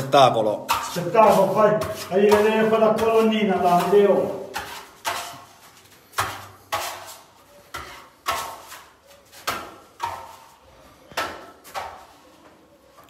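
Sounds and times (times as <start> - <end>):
trowel rasping on plaster: 0.7 - 12.4.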